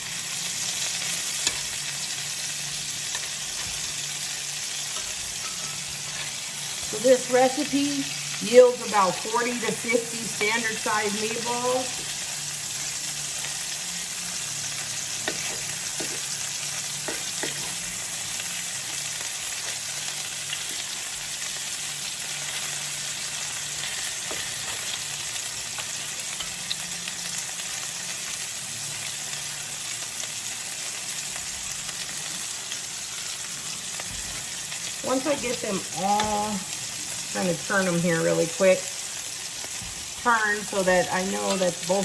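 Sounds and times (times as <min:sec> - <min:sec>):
meatballs sizzling in a frying pan: 0:00.0 - 0:42.0.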